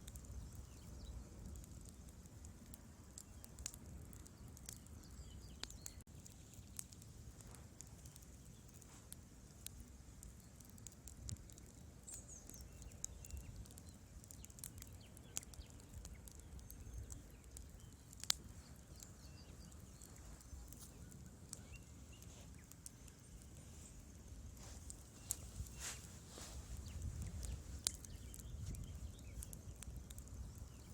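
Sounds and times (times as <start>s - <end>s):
low rumble of flames: 0.0s - 30.9s
sharp pops from fire: 0.0s - 30.9s
wood fire crackling: 0.0s - 30.9s.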